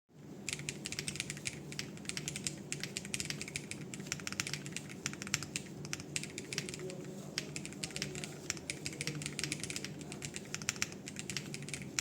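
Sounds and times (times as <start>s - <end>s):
fast keyboard typing: 0.4s - 12.0s.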